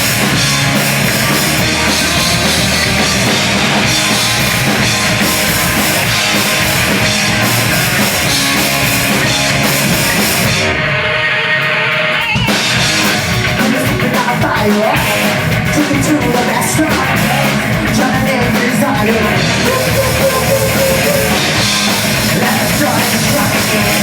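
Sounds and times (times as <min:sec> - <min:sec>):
drum kit with cymbals: 0:00.0 - 0:10.8, 0:12.1 - 0:24.0
distorted electric guitars: 0:00.0 - 0:24.0.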